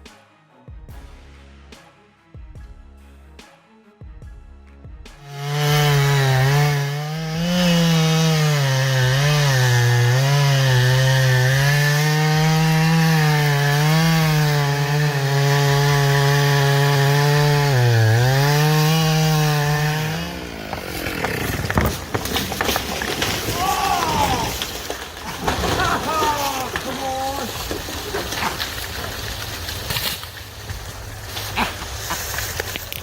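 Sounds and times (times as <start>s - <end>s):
chainsaw cutting: 5.2s - 33.0s.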